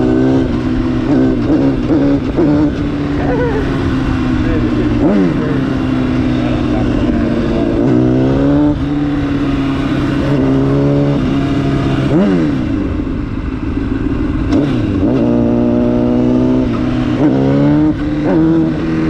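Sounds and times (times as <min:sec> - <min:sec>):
motorcycle engine accelerating hard: 0:00.0 - 0:19.0.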